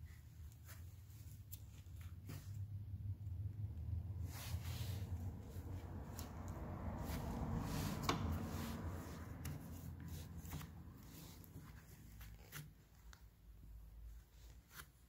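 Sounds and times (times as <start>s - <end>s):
rustling: 0.0s - 2.9s, 4.1s - 15.0s.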